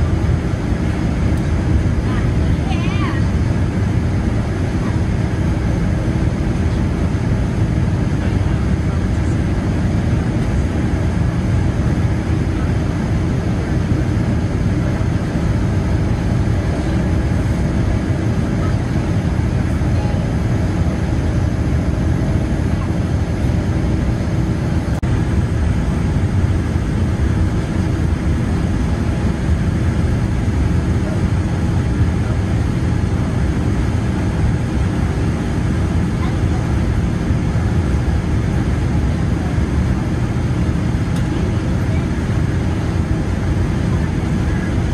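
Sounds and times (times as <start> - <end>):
low rumble of aircraft engines: 0.0 - 44.9.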